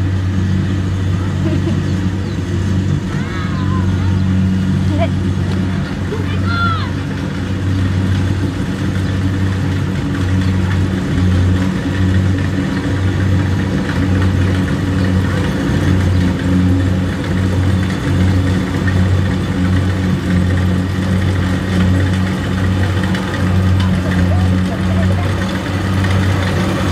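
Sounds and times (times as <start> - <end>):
combine harvester diesel engine: 0.0 - 26.9.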